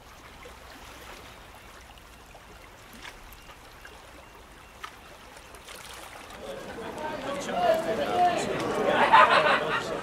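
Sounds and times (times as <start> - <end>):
river water trickling: 0.0 - 10.0.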